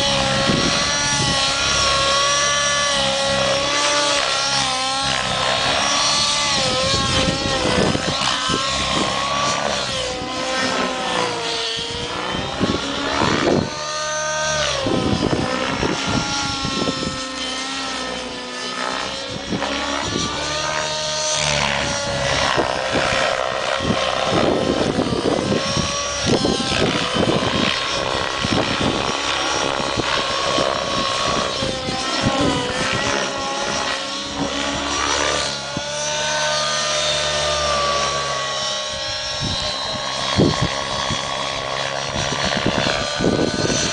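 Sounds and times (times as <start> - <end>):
model helicopter engine and rotor whine: 0.0 - 43.9.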